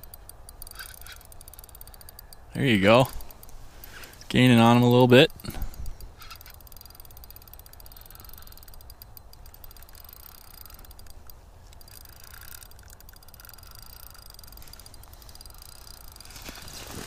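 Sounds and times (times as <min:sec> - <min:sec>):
fishing reel gears clicking: 0:00.0 - 0:16.6.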